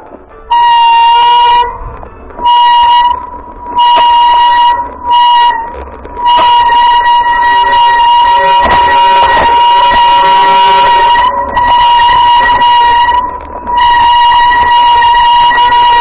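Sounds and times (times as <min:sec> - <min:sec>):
brakes squealing: 0:00.0 - 0:16.0.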